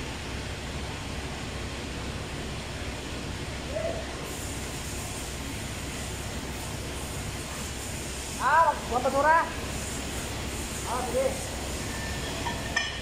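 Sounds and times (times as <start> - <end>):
low mechanical hum with hiss: 0.0 - 13.0.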